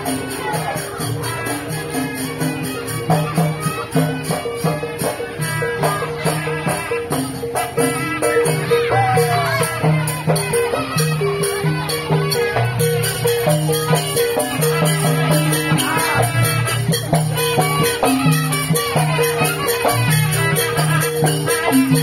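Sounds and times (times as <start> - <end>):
percussion keeping a beat: 0.0 - 22.0
sliding melody line: 0.0 - 22.0.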